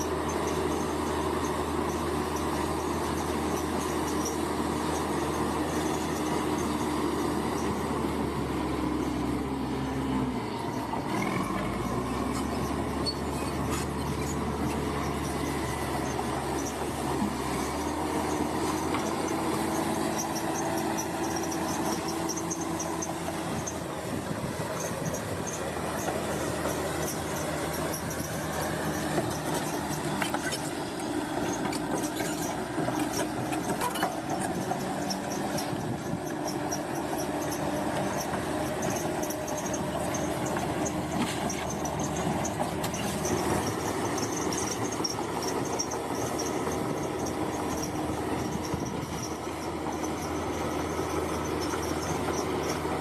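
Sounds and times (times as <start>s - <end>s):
diesel engine running: 0.0s - 53.0s
metallic squeal and clatter of tracks: 0.0s - 53.0s.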